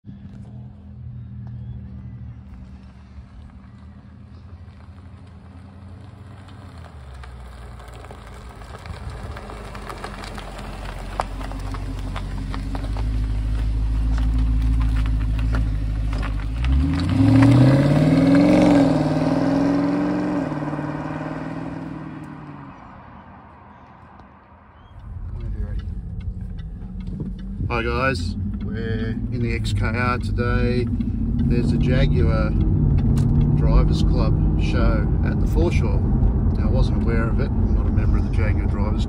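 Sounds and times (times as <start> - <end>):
car engine passing and accelerating: 0.0 - 39.0.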